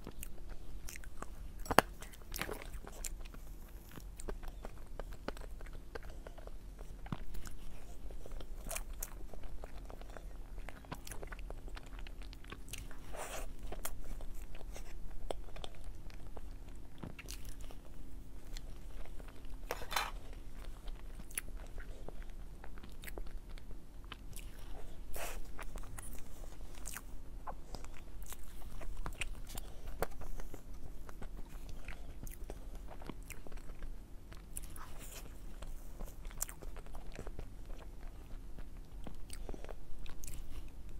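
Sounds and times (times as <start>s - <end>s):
low steady hum: 0.0s - 40.9s
wet chewing: 0.0s - 40.9s.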